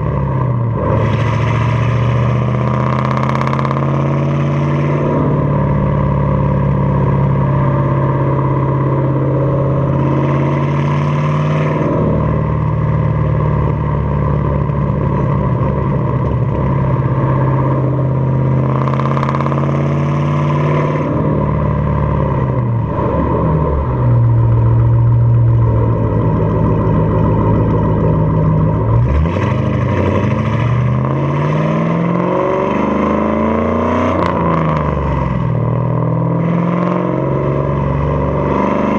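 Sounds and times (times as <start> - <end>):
car engine exhaust accelerating: 0.0 - 38.9.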